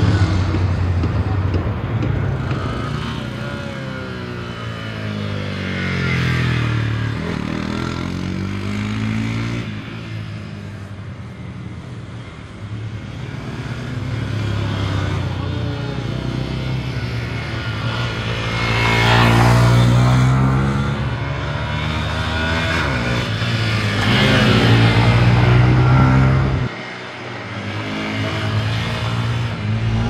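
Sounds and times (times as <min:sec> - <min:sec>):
motorcycle engine revving: 0:00.0 - 0:10.0, 0:13.2 - 0:30.0.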